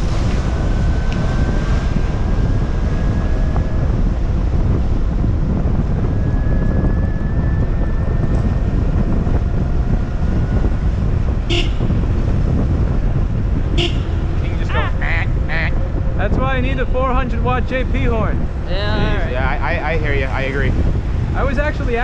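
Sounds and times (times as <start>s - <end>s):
city traffic: 0.0s - 22.0s
wind buffeting microphone: 0.0s - 22.0s.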